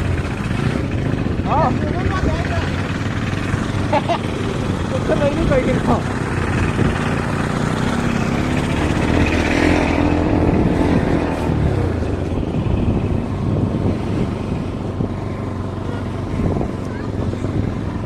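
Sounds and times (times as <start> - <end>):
motorcycle engine running: 0.0 - 18.0
steady rushing noise: 0.0 - 18.0.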